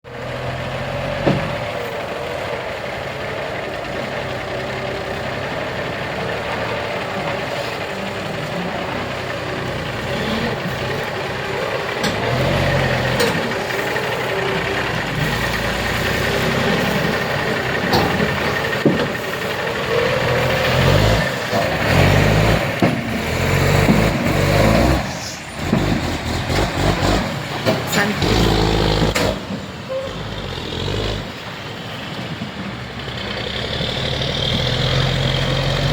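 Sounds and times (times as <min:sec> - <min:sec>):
truck diesel engine running: 0:00.0 - 0:35.9.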